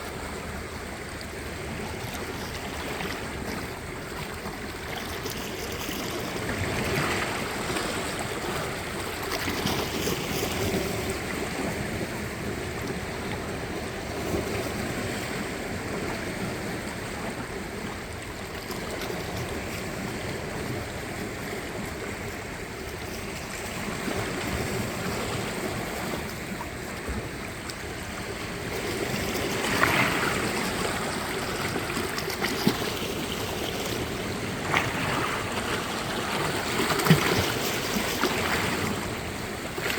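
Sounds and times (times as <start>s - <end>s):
sea waves lapping at shore: 0.0s - 39.9s.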